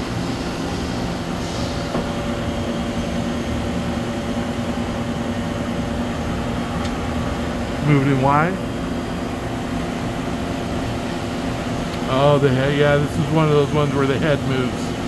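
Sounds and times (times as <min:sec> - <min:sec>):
high steady machine whine: 0:00.0 - 0:15.0
machine mechanical hum: 0:00.0 - 0:15.0.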